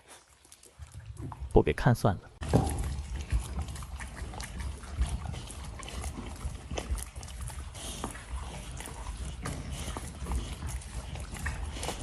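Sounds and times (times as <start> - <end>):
dogs chewing and licking food: 0.0 - 1.8, 2.4 - 12.0.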